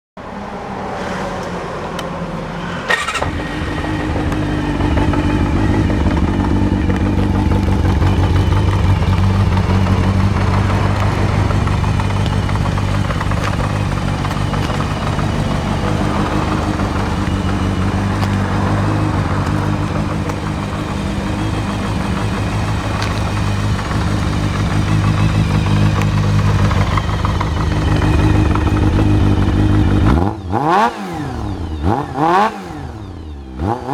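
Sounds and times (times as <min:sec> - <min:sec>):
motorcycle engine starting and idling: 0:01.3 - 0:33.9.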